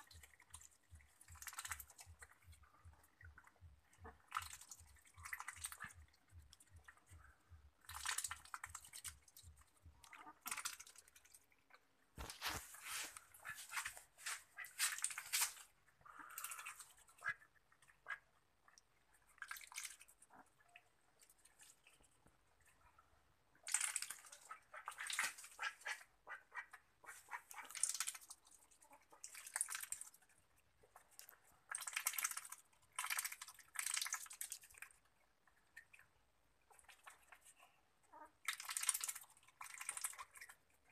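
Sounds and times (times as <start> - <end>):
ducks dabbling in feed: 0.0 - 40.9.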